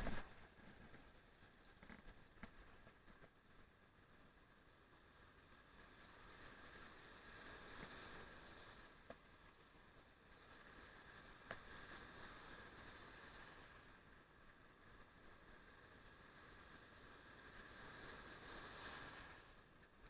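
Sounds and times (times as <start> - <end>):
faint surf washing: 0.0 - 20.0.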